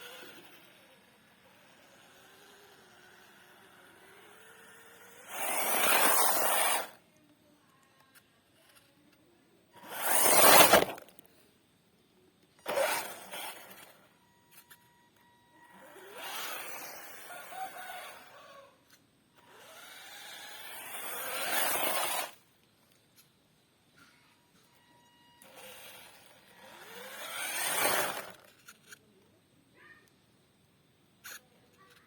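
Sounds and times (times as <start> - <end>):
remote control car passing: 0.0 - 8.9, 9.7 - 11.5, 12.5 - 23.3, 23.9 - 29.1, 31.2 - 32.0.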